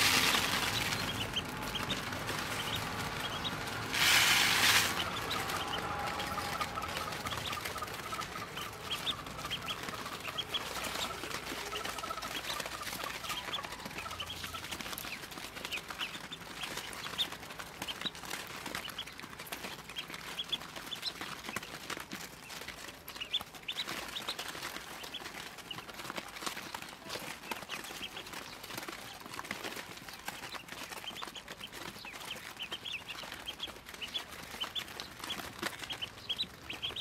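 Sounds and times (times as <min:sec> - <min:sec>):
chicks scuffling over litter: 0:00.0 - 0:37.0
ducklings peeping: 0:00.0 - 0:37.0.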